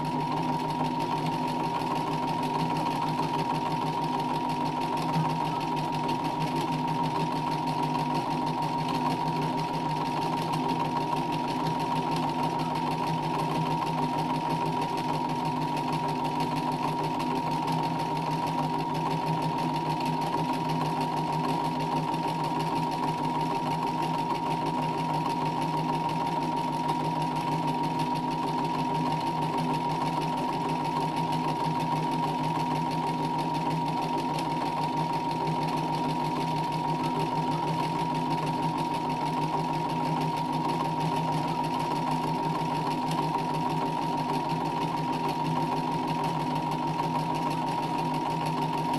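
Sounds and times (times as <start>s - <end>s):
sewing machine running: 0.0s - 48.9s.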